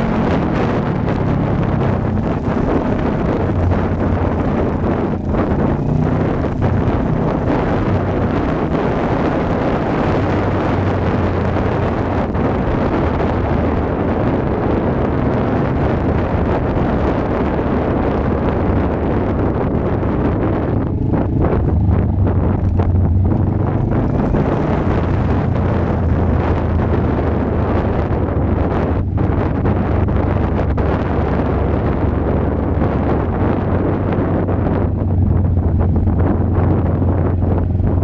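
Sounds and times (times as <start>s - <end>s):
motorcycle engine drone: 0.0s - 38.0s
wind buffeting microphone: 0.0s - 38.0s.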